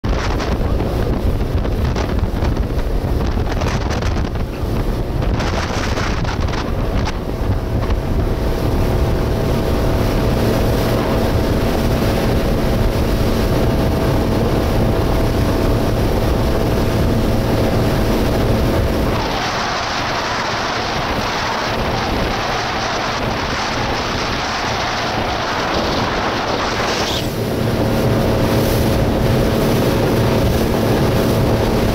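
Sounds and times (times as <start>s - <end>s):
motorboat engine drone: 0.0s - 31.9s
rushing wake water: 0.0s - 31.9s
wind buffeting microphone: 0.0s - 31.9s.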